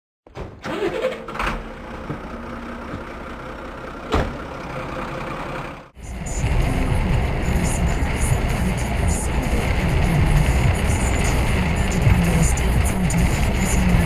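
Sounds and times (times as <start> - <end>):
truck engine idling: 0.6 - 14.0.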